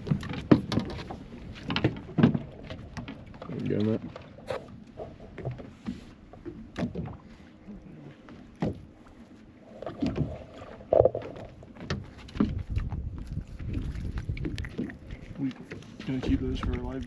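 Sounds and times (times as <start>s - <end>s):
low rumble of water and hull: 0.0s - 3.5s, 4.1s - 17.0s.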